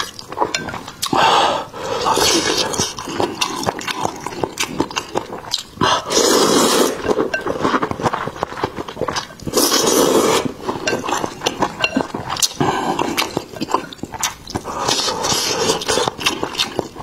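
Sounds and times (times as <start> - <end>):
wet chewing and mouth clicks: 0.0 - 17.0
person slurping noodles: 1.0 - 17.0.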